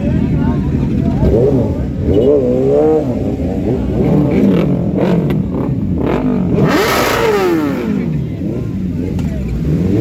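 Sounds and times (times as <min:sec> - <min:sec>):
superbike engines revving: 0:00.0 - 0:10.0.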